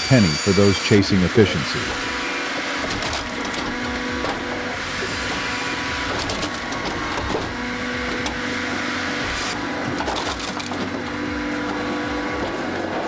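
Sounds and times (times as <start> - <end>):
firewood processor drone: 0.0 - 13.0.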